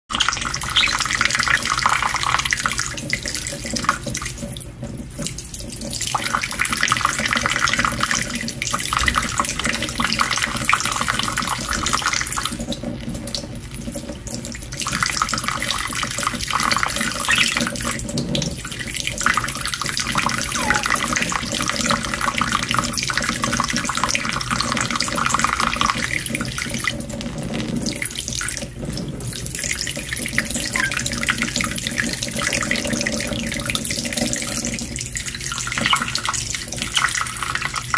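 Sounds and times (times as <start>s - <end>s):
water running from a tap: 0.1s - 37.9s.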